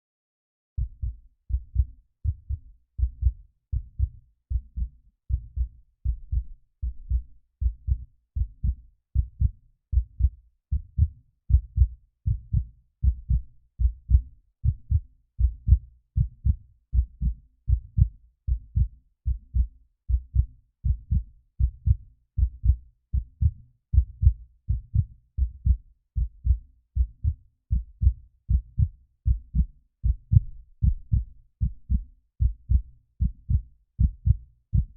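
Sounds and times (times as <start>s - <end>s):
heartbeat thumping: 0.8s - 34.9s.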